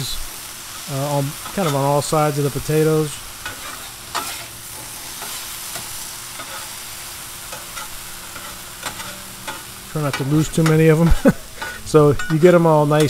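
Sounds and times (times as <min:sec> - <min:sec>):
potatoes sizzling in oil: 0:00.0 - 0:13.0
metal spatula scraping griddle: 0:01.4 - 0:13.0.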